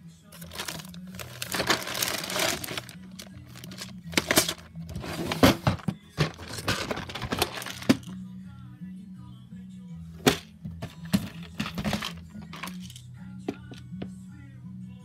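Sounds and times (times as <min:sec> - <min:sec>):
background music with bass: 0:00.0 - 0:15.0.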